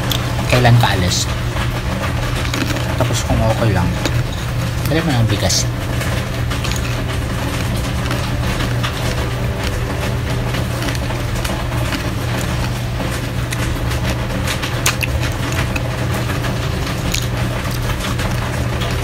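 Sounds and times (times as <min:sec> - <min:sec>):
heavy rain: 0:00.0 - 0:19.0
low constant hum: 0:00.0 - 0:19.0
crunchy chewing: 0:01.1 - 0:19.0.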